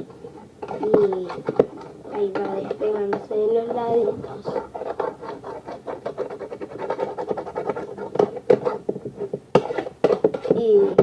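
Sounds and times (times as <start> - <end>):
slime stirred and scraped with spoon: 0.0 - 11.0.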